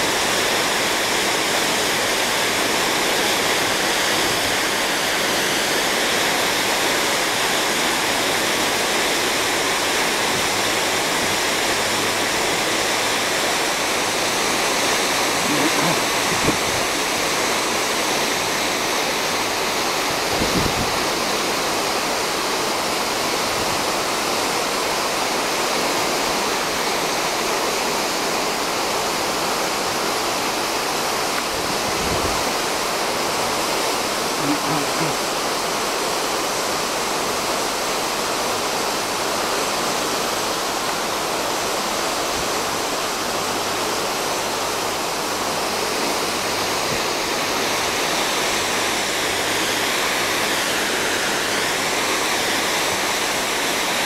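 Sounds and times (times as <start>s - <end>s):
sea water rushing past ship: 0.0s - 54.0s
wind: 0.0s - 54.0s.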